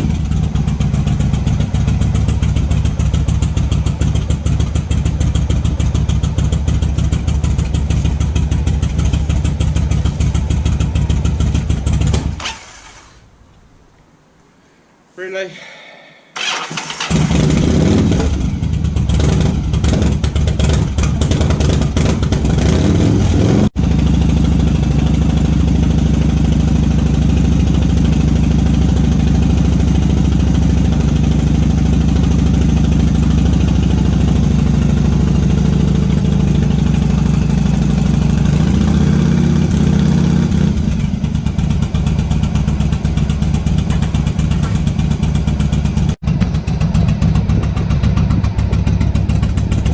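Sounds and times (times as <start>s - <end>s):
motorcycle engine starting and idling: 0.0s - 13.7s, 16.4s - 49.9s.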